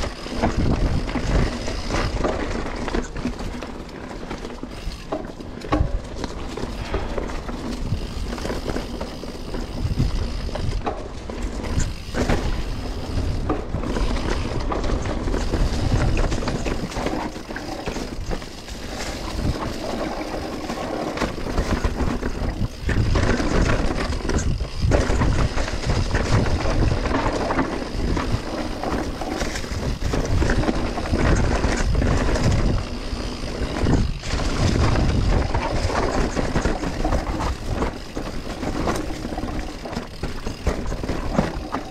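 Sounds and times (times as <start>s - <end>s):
bike rattling and knocking: 0.0s - 41.9s
bike tyres on dirt: 0.0s - 41.9s
wind rumbling on microphone: 0.0s - 41.9s.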